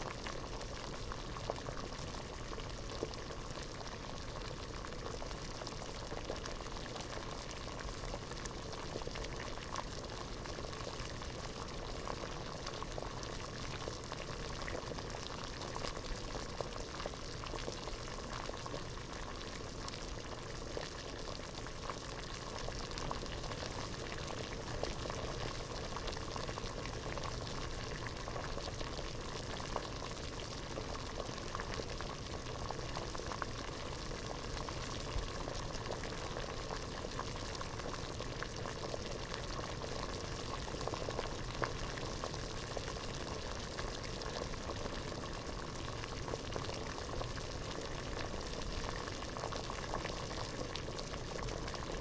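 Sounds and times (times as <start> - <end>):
water boiling in a pot: 0.0 - 52.0.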